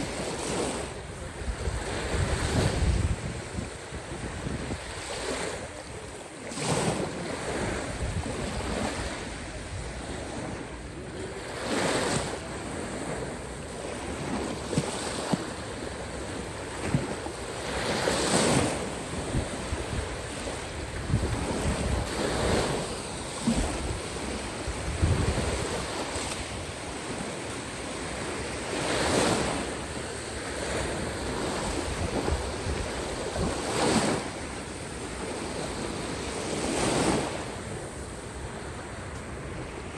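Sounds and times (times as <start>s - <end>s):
sea waves washing in: 0.0s - 39.9s
wind rumbling on microphone: 0.0s - 39.9s.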